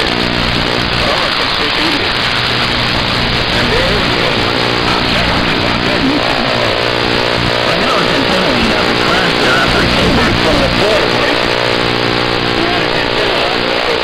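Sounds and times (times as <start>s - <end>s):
faint garbled voices: 0.0s - 14.0s
radio hiss: 0.0s - 14.0s.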